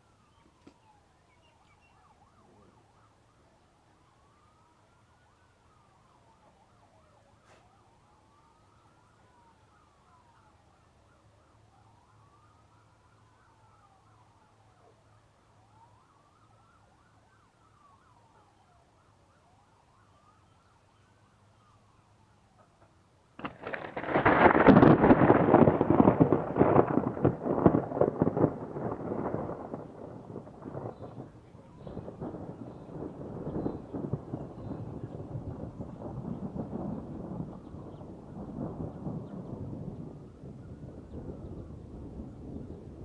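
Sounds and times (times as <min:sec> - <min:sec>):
distant siren wailing: 0:00.0 - 0:43.0
warbling siren: 0:00.0 - 0:43.0.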